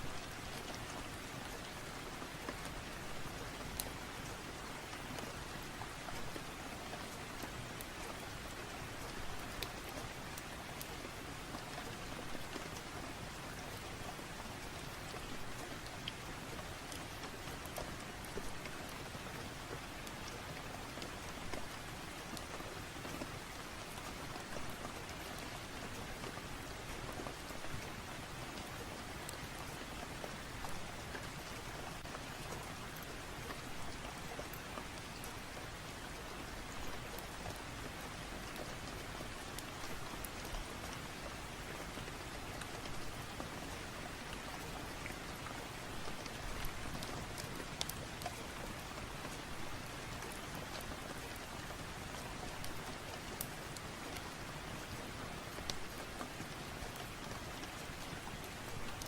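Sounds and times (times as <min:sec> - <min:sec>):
steady rain falling: 0:00.0 - 0:59.0
ticks of raindrops: 0:00.0 - 0:59.0.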